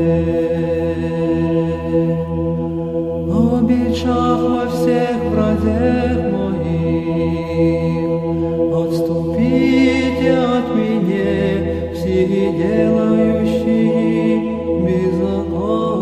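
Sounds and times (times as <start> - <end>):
held vocal drone: 0.0 - 16.0.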